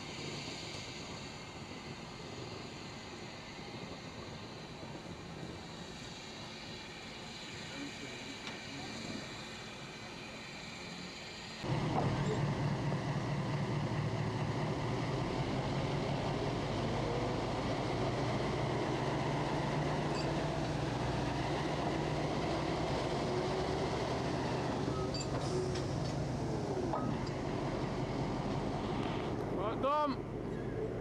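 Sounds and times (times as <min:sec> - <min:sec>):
diesel locomotive engine droning: 0:00.0 - 0:31.0.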